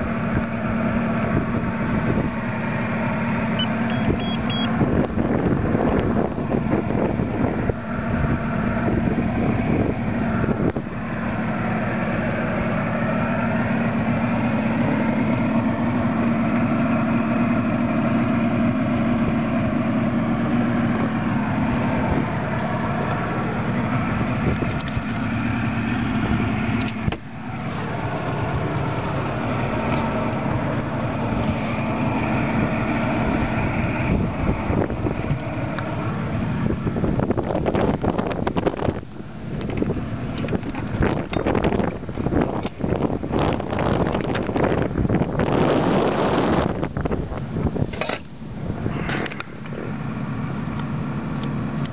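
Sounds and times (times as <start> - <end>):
outboard engine running: 0.0 - 51.9.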